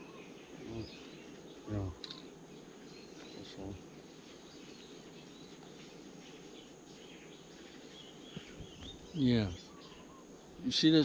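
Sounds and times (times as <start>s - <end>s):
insects: 0.0s - 11.0s
low background noise: 0.0s - 11.0s
small bird chirps: 0.0s - 11.0s.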